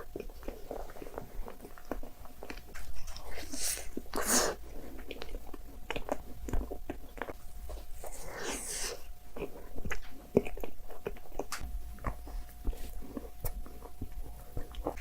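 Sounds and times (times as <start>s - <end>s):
person chewing and biting: 0.0s - 15.0s.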